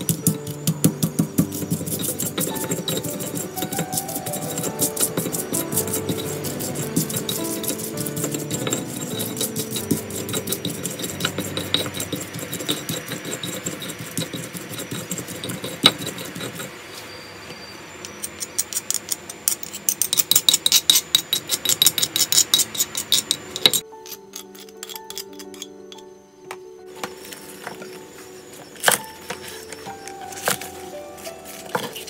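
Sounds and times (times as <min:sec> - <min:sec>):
stone pestle grinding in mortar: 0:00.0 - 0:16.8, 0:18.1 - 0:25.7, 0:28.8 - 0:32.0.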